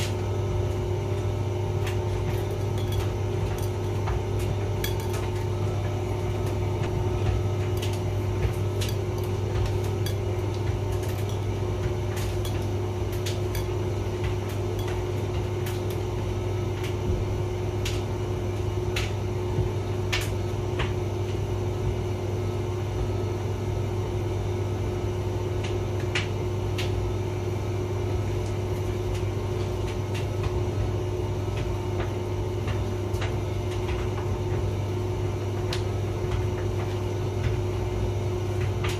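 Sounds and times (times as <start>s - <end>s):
tumble dryer humming: 0.0s - 38.9s.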